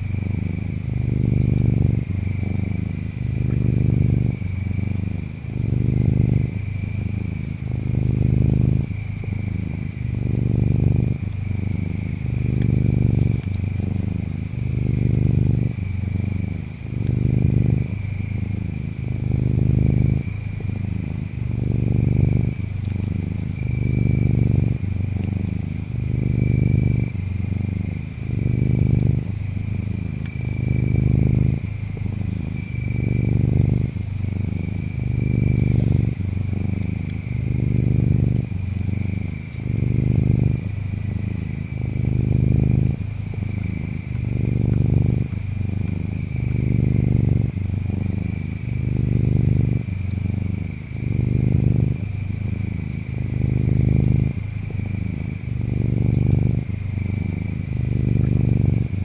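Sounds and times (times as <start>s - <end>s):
cat purring: 0.0s - 59.0s
insects chirping: 0.0s - 59.0s
very high insect trills: 0.0s - 59.0s.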